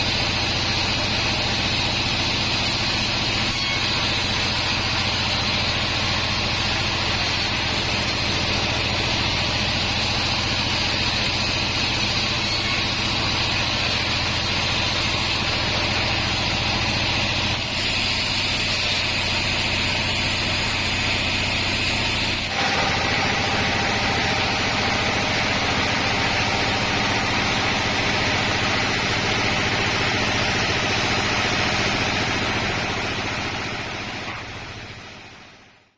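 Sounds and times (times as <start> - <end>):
bandsaw running: 0.0 - 35.5.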